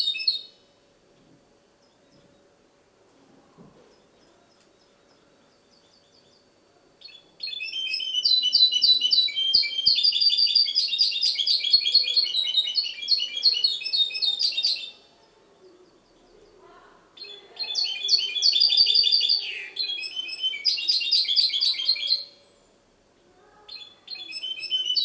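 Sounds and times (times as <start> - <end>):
bird twittering song: 0.0 - 0.7, 1.8 - 2.5, 3.8 - 22.5, 23.7 - 25.0.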